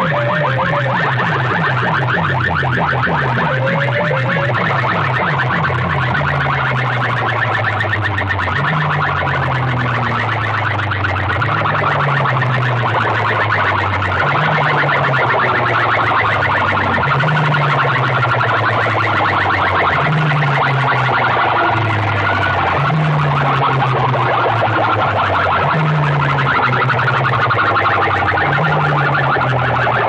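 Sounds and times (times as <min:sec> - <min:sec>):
loud distorted music from loudspeakers: 0:00.0 - 0:30.0.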